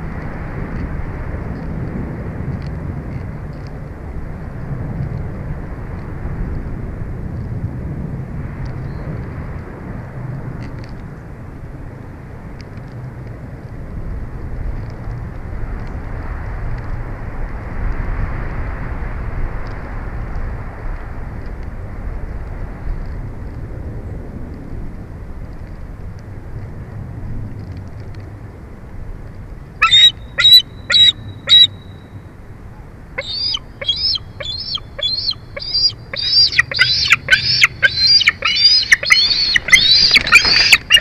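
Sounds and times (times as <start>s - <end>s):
deep outdoor rushing noise: 0.0s - 41.0s.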